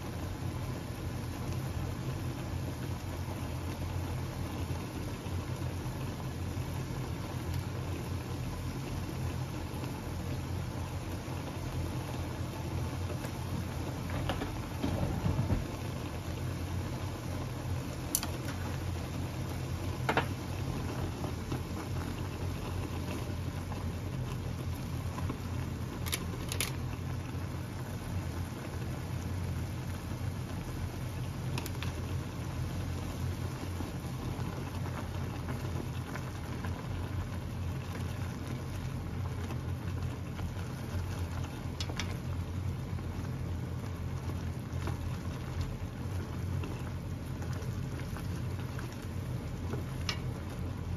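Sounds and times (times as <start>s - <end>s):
broth bubbling in a pot: 0.0s - 50.9s
low steady hum: 0.0s - 50.9s.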